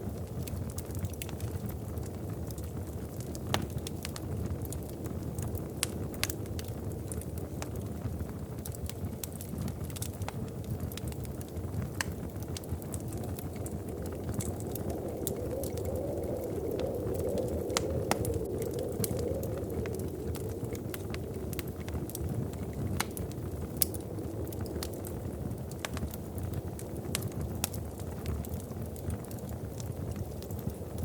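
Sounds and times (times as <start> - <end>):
wood fire crackling: 0.0 - 31.0
wind howling: 0.5 - 31.0.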